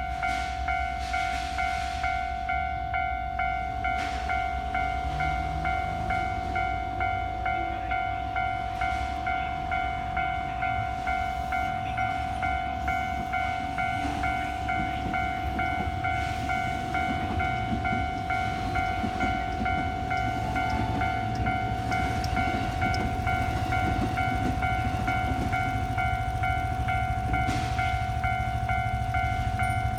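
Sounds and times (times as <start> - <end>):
level crossing alarm ringing: 0.0 - 29.9
trains rumbling past: 0.0 - 29.9.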